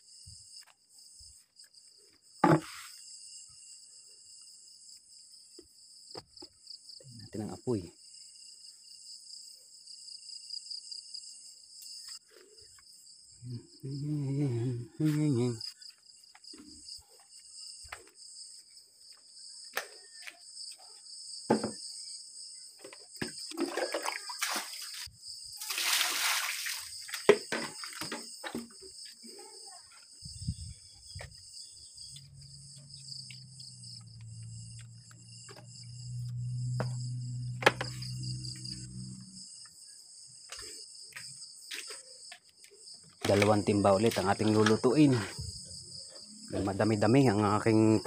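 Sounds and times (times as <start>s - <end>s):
crickets chirring: 0.0s - 48.0s.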